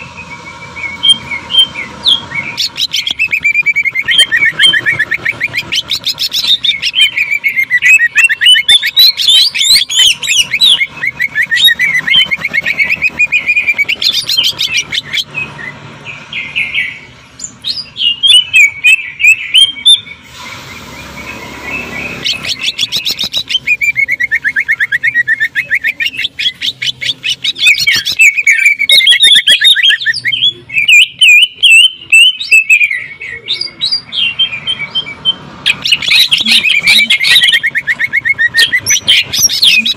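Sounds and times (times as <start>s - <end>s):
bird singing rattling notes: 0.0s - 39.9s.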